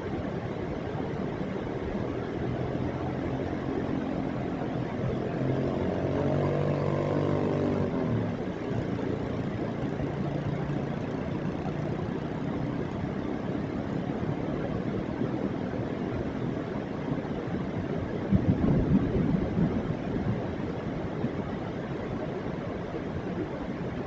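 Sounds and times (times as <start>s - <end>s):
vehicle engine droning: 0.0s - 24.0s.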